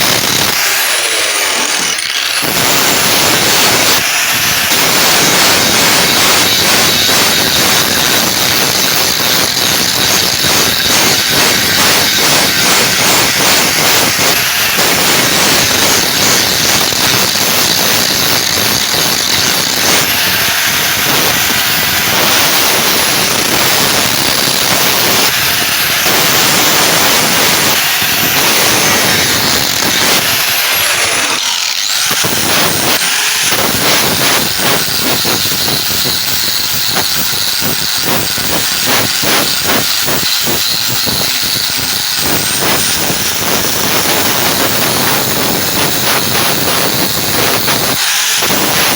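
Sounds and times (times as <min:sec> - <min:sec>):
power grinder on steel blade: 0:00.0 - 0:48.9.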